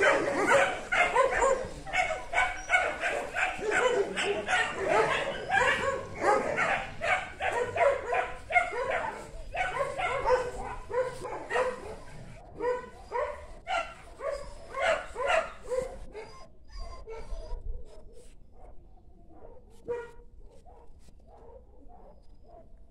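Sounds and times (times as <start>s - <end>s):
dog barking and yipping: 0.0s - 18.7s, 19.4s - 22.7s.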